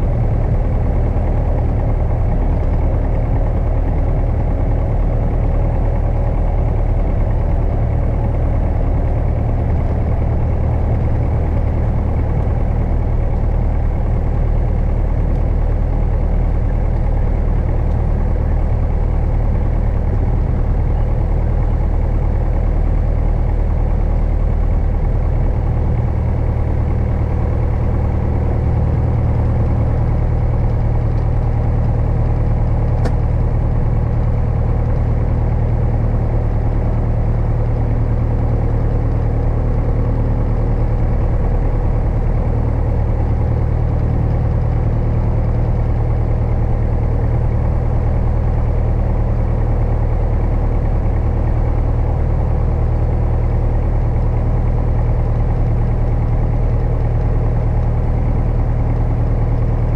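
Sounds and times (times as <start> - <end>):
aircraft piston engine idling: 0.0 - 59.9.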